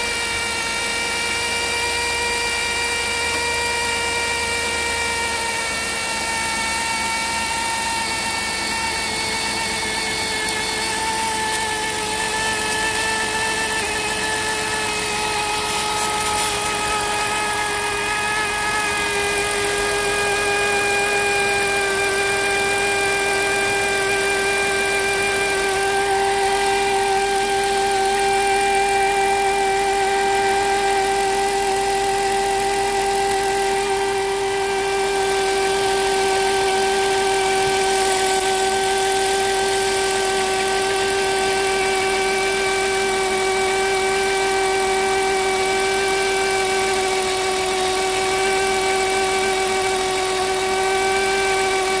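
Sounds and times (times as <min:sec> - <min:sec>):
alternator whine: 0:00.0 - 0:52.0
engine idling: 0:00.0 - 0:52.0.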